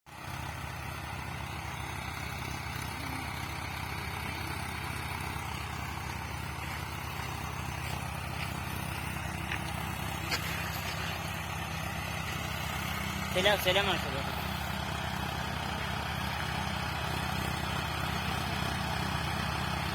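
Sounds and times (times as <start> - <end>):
tractor engine chugging: 0.1 - 19.9.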